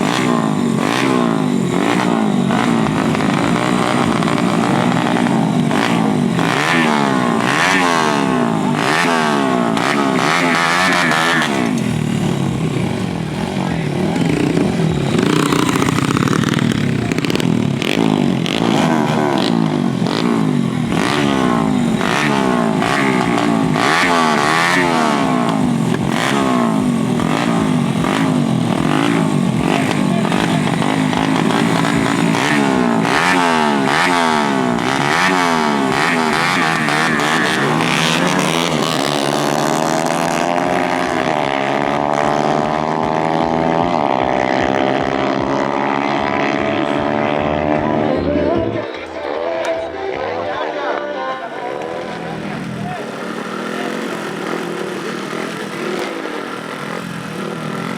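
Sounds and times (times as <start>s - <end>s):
dirt bike engines revving: 0.0s - 57.9s
steady engine note: 0.0s - 57.9s.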